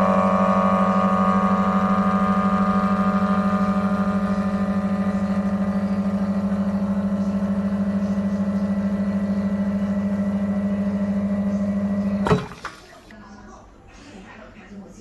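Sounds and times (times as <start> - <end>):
espresso machine pump humming: 0.0 - 13.1.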